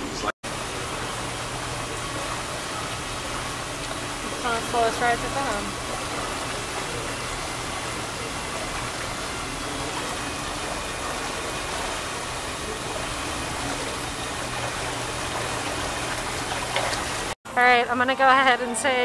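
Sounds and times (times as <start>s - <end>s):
water rushing along channel: 0.0s - 17.4s.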